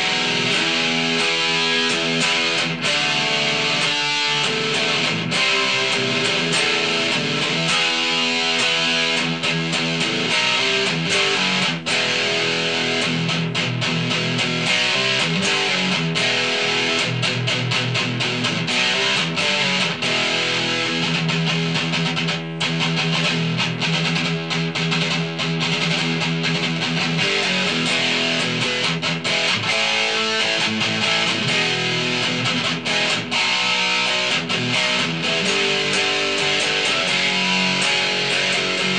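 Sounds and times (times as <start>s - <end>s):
distorted electric guitar riffs: 0.0s - 38.9s.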